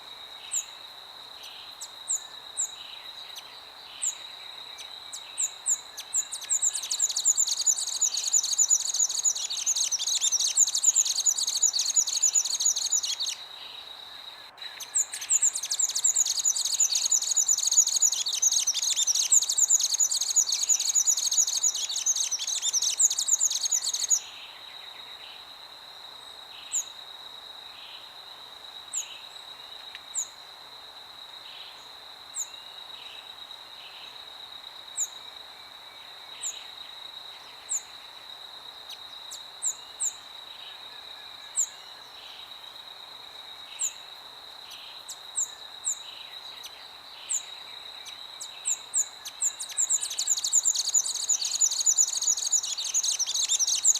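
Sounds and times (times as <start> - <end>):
songbirds singing: 0.0 - 25.6, 34.9 - 53.9.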